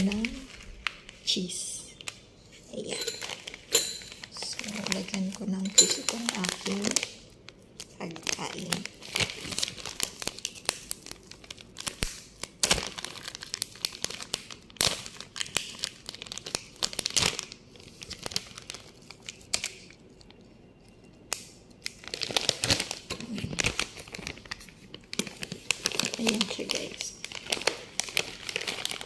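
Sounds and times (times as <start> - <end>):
plastic packet crinkling: 0.0 - 29.0.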